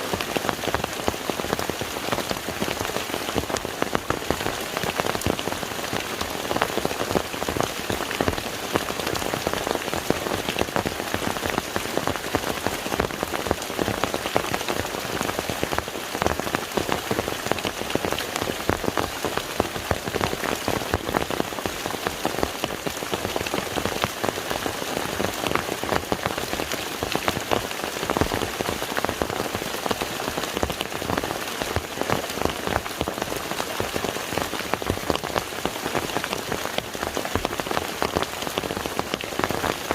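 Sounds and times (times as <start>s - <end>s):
rain falling on a lake: 0.0s - 39.9s.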